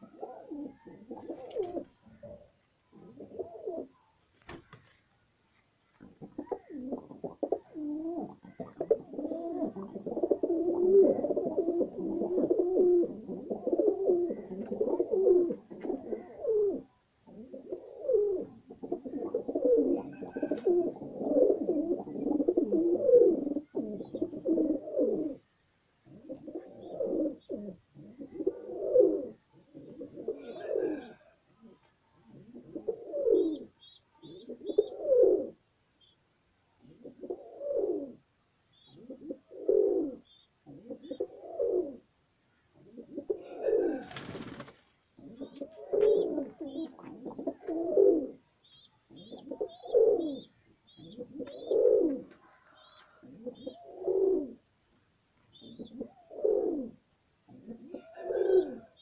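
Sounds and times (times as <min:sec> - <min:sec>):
pigeons cooing: 0:00.0 - 0:04.0, 0:06.0 - 0:35.6, 0:36.8 - 0:42.1, 0:42.8 - 0:54.7, 0:55.5 - 0:59.0.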